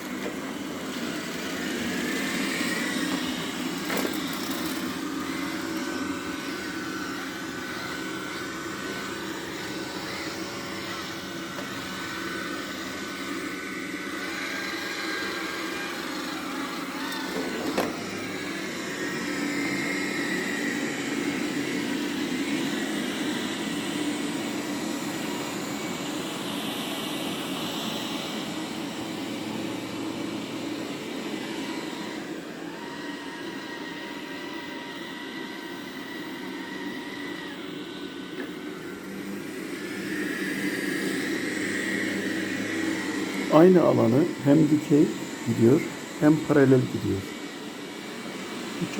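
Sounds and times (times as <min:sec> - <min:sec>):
robot vacuum whirring: 0:00.0 - 0:48.9.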